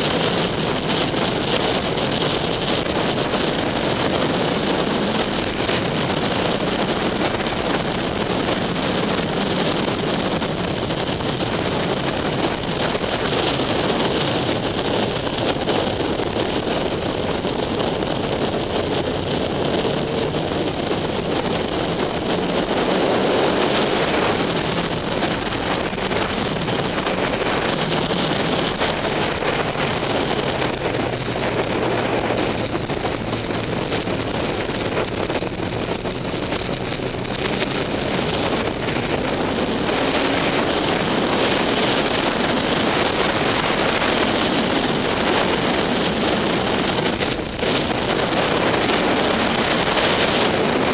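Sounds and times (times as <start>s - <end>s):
motorcycle engine running: 0.0s - 50.9s
wind rush on microphone: 0.0s - 50.9s.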